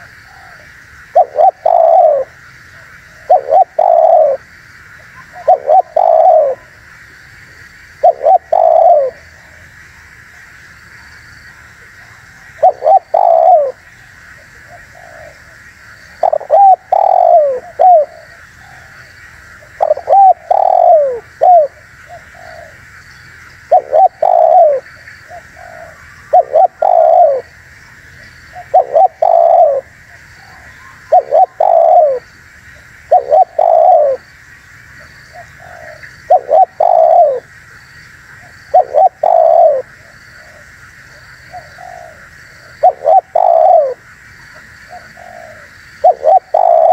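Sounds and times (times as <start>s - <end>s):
dove cooing: 0.0s - 6.8s, 8.0s - 9.7s, 11.8s - 22.8s, 23.7s - 27.5s, 28.5s - 32.3s, 33.1s - 34.2s, 35.0s - 37.5s, 38.4s - 46.9s
background hiss: 0.0s - 46.9s.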